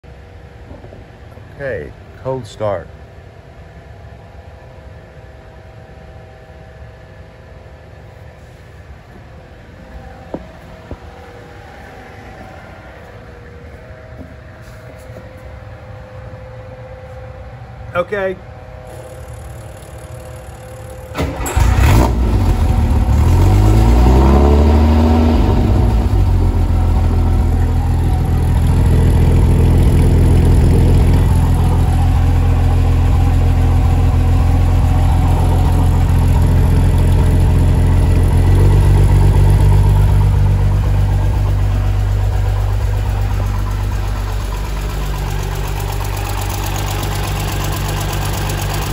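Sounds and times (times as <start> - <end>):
car engine starting and idling: 6.2 - 48.9.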